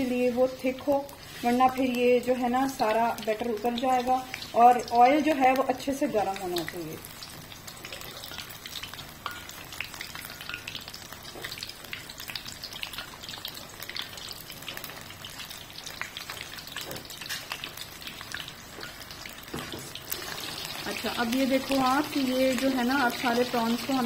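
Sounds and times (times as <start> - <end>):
oil sizzling and crackling: 0.0 - 24.0.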